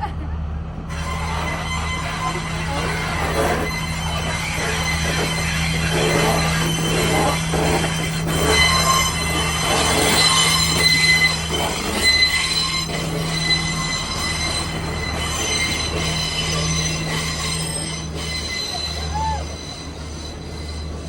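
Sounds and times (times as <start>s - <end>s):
train running on rails: 0.0s - 21.0s
high-pitched wheel squeal: 0.9s - 21.0s.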